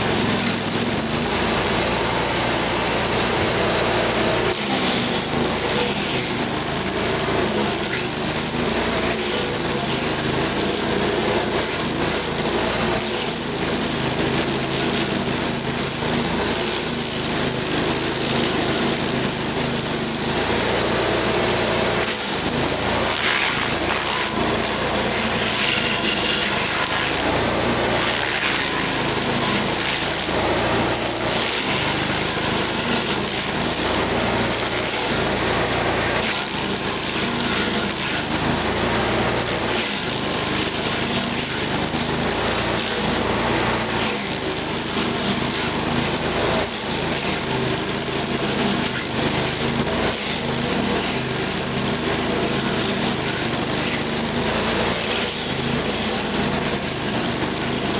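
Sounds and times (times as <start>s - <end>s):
stump grinder grinding wood: 0.0s - 57.9s.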